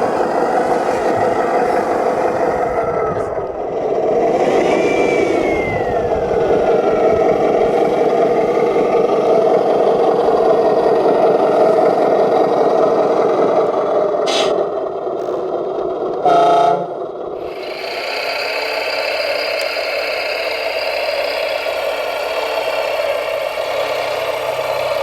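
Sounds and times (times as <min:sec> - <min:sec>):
model truck motor humming: 0:00.0 - 0:25.0.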